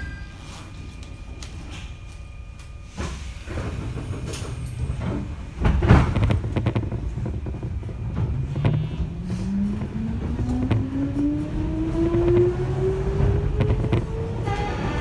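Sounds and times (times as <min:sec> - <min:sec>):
sliding train doors closing: 0:00.0 - 0:15.0
train pulling away: 0:00.0 - 0:15.0.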